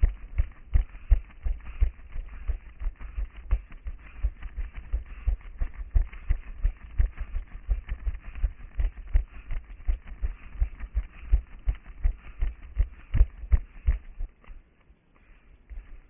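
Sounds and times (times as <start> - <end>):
running footsteps on pavement: 0.0 - 14.6.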